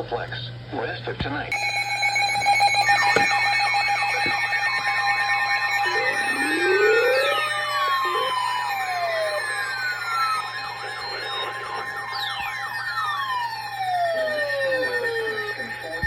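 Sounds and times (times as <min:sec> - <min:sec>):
steady held tones: 0:01.5 - 0:16.0
tones sliding down in pitch: 0:01.5 - 0:16.0
fast repeating warble: 0:01.6 - 0:16.0.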